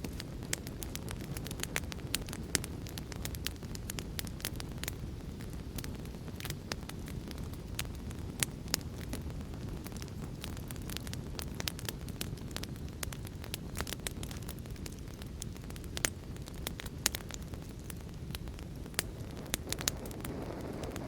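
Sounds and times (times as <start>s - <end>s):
low rumble of burning: 0.0s - 21.0s
wood fire crackling and popping: 0.0s - 21.0s.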